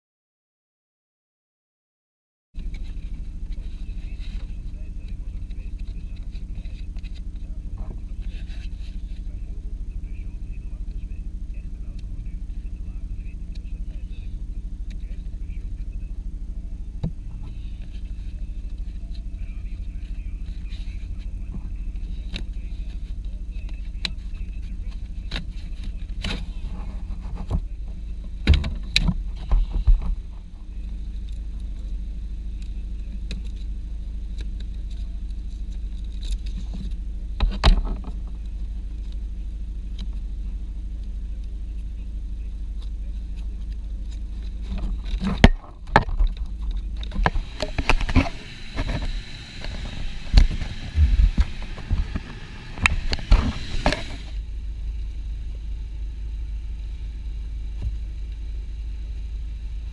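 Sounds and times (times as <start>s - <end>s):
steady low hum: 2.6s - 59.9s.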